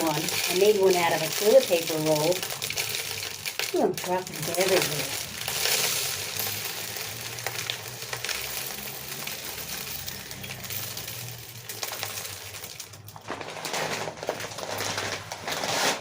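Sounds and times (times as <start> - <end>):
seeds trickling and pattering: 0.0 - 15.3.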